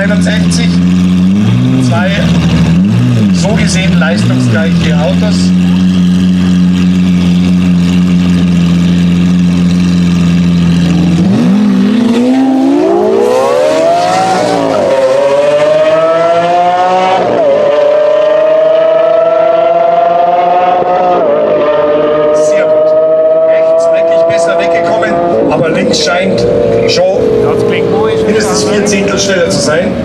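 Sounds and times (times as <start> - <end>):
sports car engine revving: 0.0 - 30.0.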